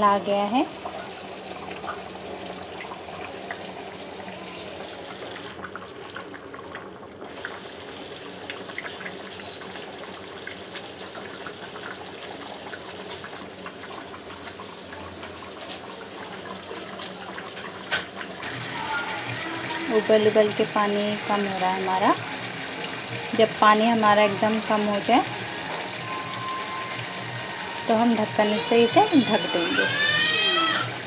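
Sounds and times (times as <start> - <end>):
rice and water boiling: 0.0 - 31.0.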